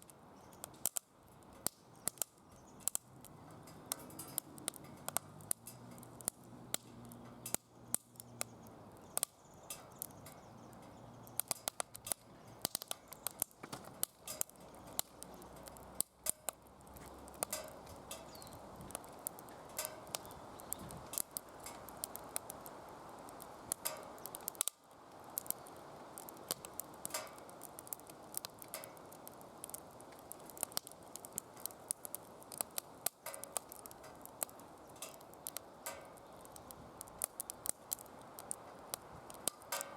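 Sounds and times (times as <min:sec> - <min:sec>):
firewood crackling and popping: 0:00.0 - 0:39.9
rush of flame: 0:00.8 - 0:39.9.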